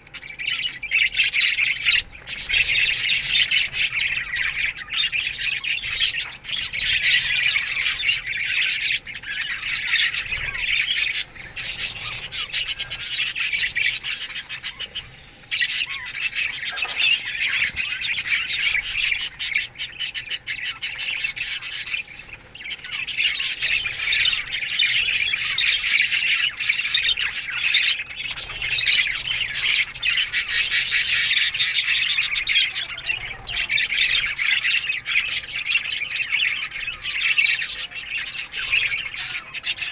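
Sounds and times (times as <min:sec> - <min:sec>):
budgies chirping and squawking: 0:00.0 - 0:39.9.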